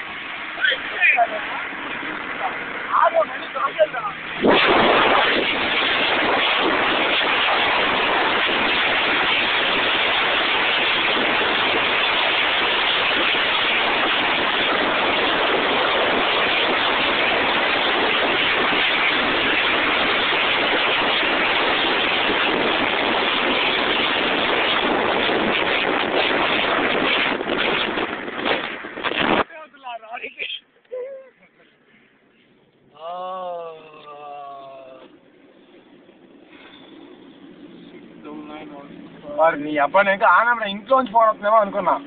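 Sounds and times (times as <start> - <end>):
wind and road noise inside car: 0.0 - 31.8, 32.4 - 42.0.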